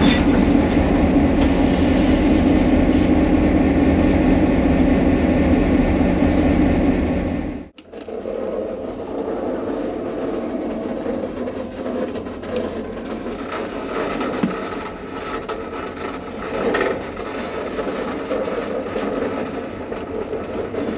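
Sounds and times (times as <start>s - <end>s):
diesel locomotive engine running: 0.0s - 7.8s, 8.4s - 20.9s.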